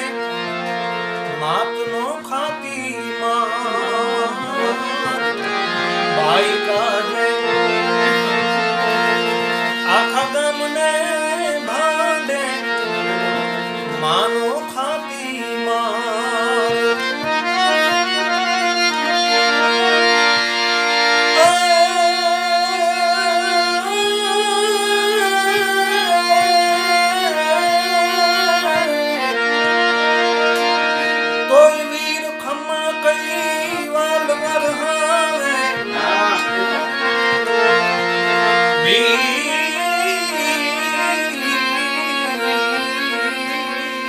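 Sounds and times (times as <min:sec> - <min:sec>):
harmonium playing folk melody: 0:00.0 - 0:44.0.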